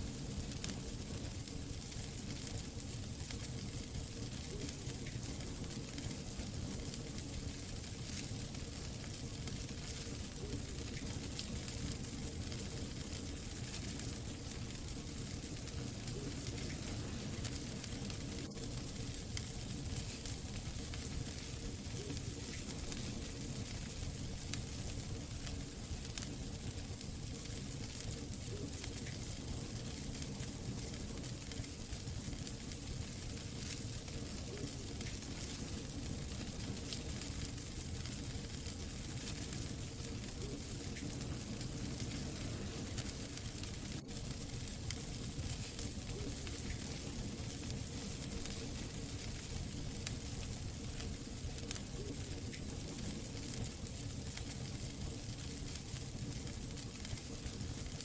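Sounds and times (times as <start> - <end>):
fire popping: 0.0 - 58.0
wood fire crackling: 0.0 - 58.0.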